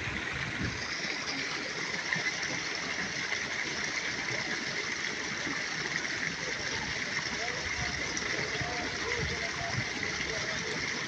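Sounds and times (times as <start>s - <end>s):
stream of water running: 0.0s - 11.0s.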